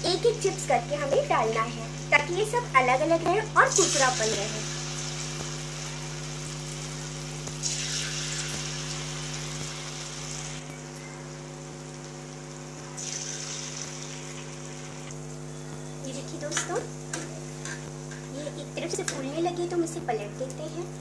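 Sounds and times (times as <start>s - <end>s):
potato slices sizzling in oil: 0.0s - 20.9s
steady low hum: 0.0s - 21.0s.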